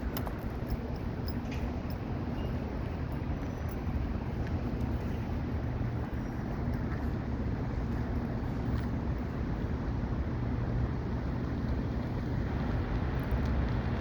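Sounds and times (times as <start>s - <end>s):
vehicle noise: 0.0s - 14.0s
wind rumble: 0.0s - 14.0s.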